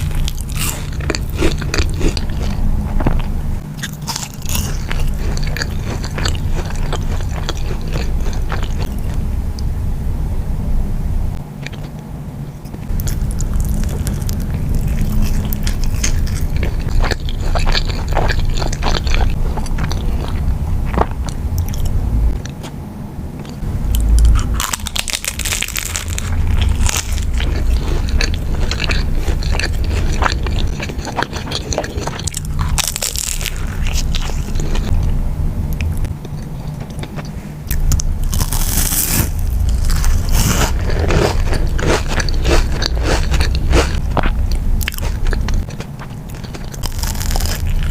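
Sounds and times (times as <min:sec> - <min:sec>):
crunchy chewing: 0:00.0 - 0:09.2, 0:11.6 - 0:22.8, 0:23.4 - 0:47.9
steady low hum: 0:00.0 - 0:47.9.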